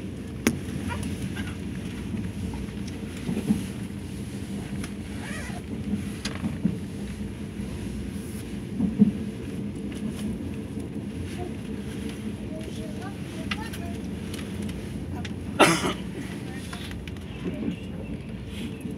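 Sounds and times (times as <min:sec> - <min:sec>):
train rumble inside carriage: 0:00.0 - 0:18.9.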